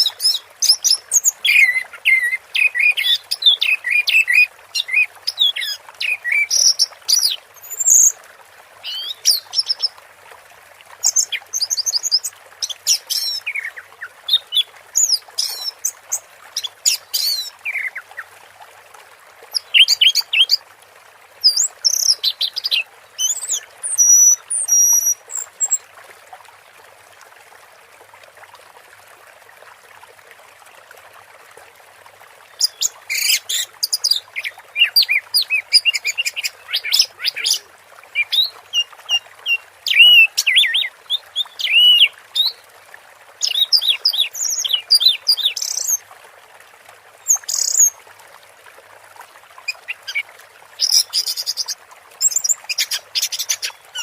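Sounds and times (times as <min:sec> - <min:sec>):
running water: 0:00.0 - 0:54.0.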